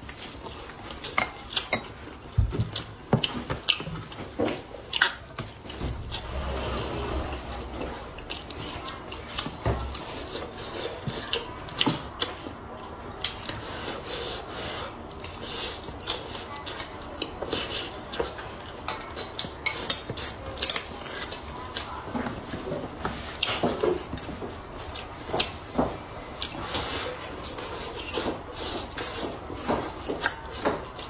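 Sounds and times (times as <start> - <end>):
close chewing: 0.0 - 25.7, 26.4 - 31.0.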